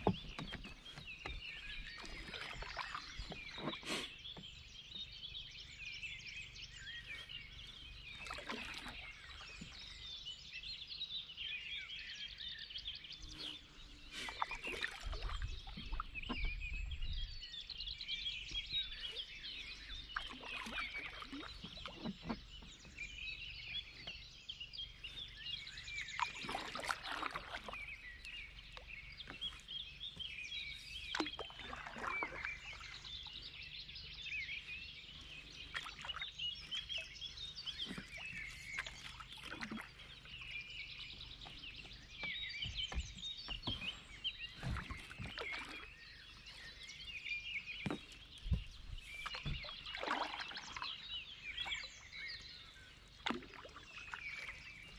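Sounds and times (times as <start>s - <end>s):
paddle splashing in water: 0.0s - 5.2s, 6.8s - 10.6s, 13.4s - 54.9s
songbirds chirping and trilling: 0.0s - 54.9s.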